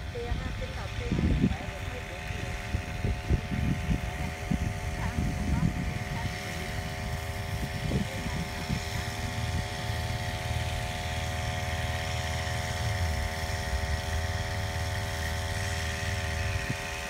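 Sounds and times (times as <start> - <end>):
brush-cutter engine running: 0.0 - 17.0.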